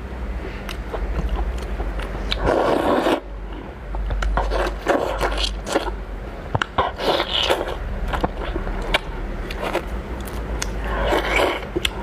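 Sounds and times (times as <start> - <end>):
person chewing: 0.5 - 6.0, 6.6 - 12.0.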